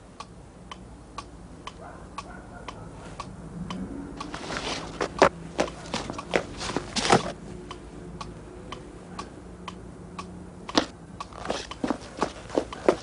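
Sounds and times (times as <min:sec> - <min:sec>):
clock ticking: 0:00.0 - 0:06.8, 0:07.6 - 0:13.0.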